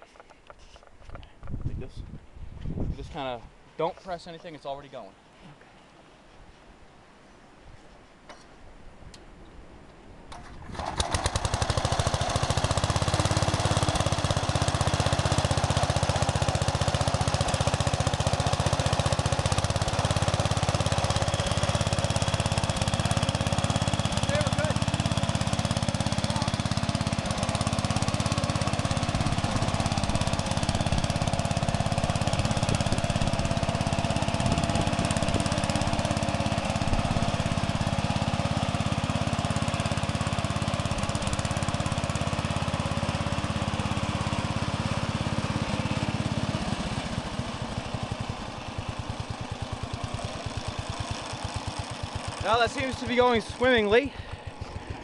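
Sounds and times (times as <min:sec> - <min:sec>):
garden tractor engine running: 0:10.3 - 0:55.0.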